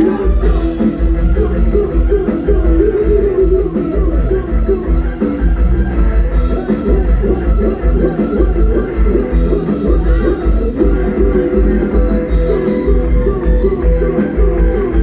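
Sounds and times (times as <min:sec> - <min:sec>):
heavy bass drum beat: 0:00.0 - 0:15.0.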